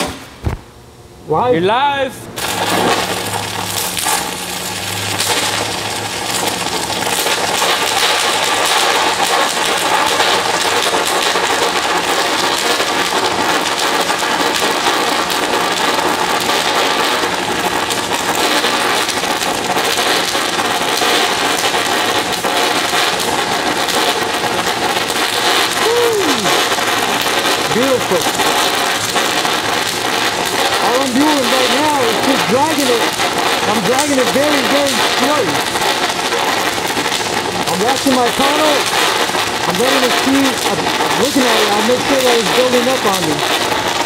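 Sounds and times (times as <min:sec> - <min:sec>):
welding arc crackling sizzle: 0:00.0 - 0:44.0.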